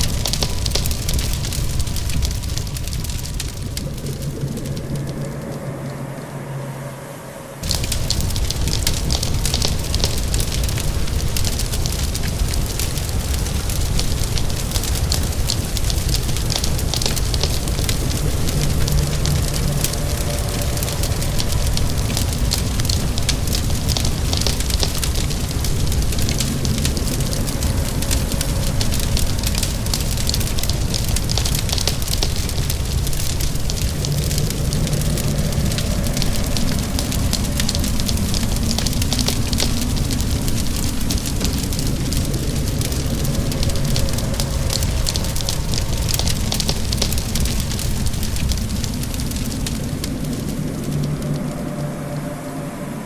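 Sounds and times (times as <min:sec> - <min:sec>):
wood fire crackling and popping: 0:00.0 - 0:06.2, 0:07.6 - 0:52.9
rain: 0:00.0 - 0:53.0
steady low rumble: 0:00.0 - 0:53.0.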